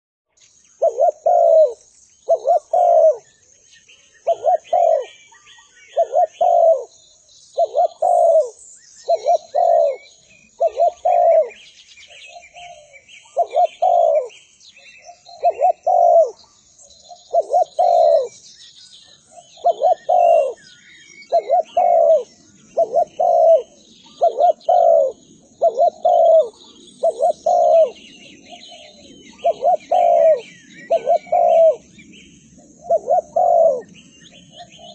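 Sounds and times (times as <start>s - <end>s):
small birds chirping: 0.3s - 34.9s
dove cooing: 0.8s - 3.3s, 4.2s - 7.0s, 7.6s - 14.4s, 15.0s - 16.4s, 17.2s - 18.4s, 19.3s - 32.0s, 32.6s - 34.9s.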